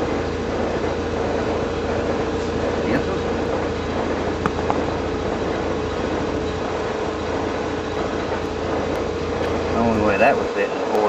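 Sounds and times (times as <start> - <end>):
steady machine drone: 0.0 - 11.0.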